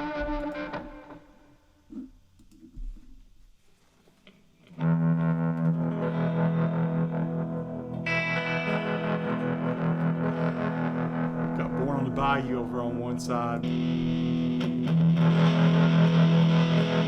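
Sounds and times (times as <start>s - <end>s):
distorted electric guitar chords: 0.0s - 2.1s, 4.6s - 17.0s.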